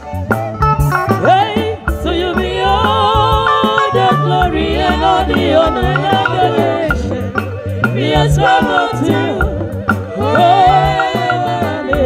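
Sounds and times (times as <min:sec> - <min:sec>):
drum kit: 0:00.0 - 0:12.0
live band music: 0:00.0 - 0:12.0
pulsing bass: 0:00.0 - 0:12.0
women singing into microphones: 0:01.0 - 0:12.0.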